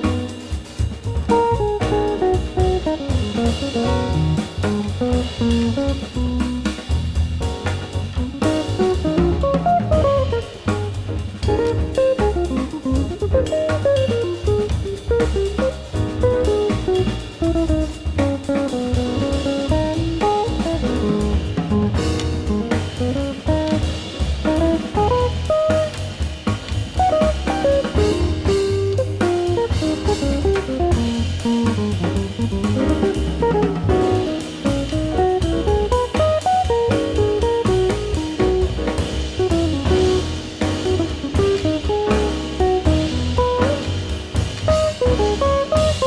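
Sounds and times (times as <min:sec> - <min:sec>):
drum kit: 0:00.0 - 0:46.0
piano: 0:00.0 - 0:46.0
upright double bass: 0:00.0 - 0:46.0.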